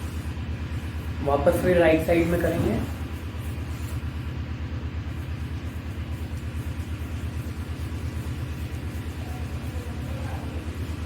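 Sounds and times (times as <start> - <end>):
hand rubbing skin: 0.0 - 4.4, 5.0 - 11.0.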